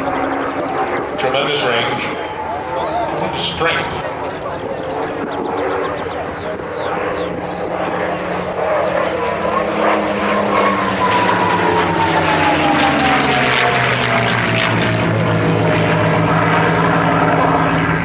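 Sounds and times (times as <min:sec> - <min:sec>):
propeller plane flying past: 0:00.0 - 0:18.0.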